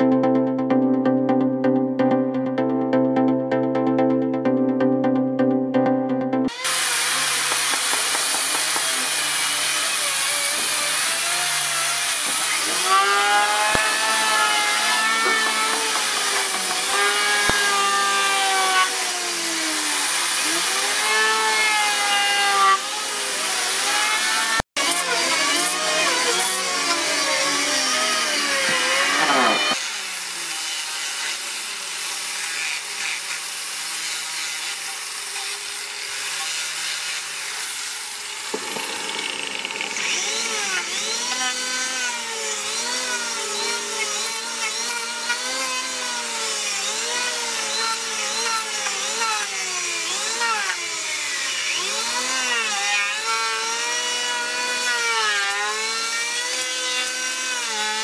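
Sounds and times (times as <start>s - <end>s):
electric planer cutting wood: 6.5s - 58.0s.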